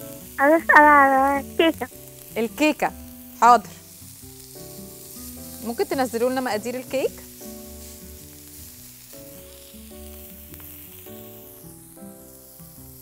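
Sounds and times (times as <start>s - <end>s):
burger patties sizzling on grill pan: 0.0s - 13.0s
soft background music: 0.0s - 13.0s.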